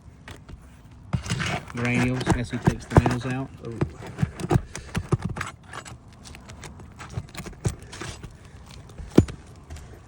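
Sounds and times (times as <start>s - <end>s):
metal scraping shingles: 0.5s - 10.0s.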